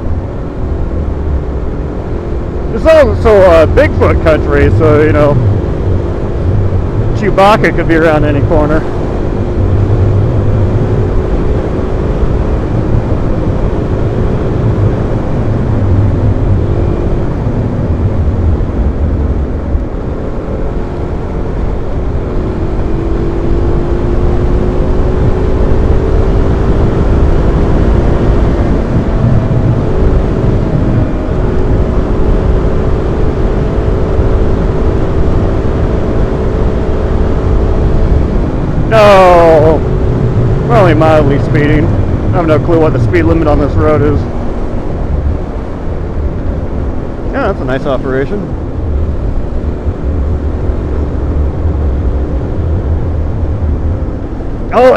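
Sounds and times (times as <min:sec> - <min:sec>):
wind rush: 0:08.3 - 0:54.9.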